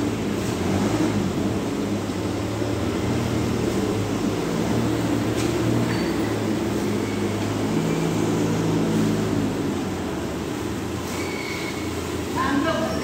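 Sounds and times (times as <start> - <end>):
forklift engine running: 0.0 - 12.4.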